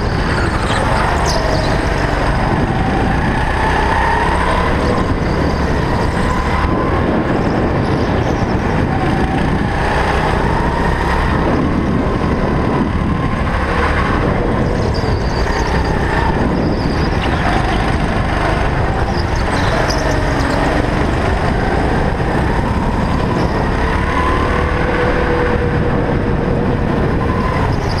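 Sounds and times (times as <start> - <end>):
go-kart engine revving: 0.0 - 28.0.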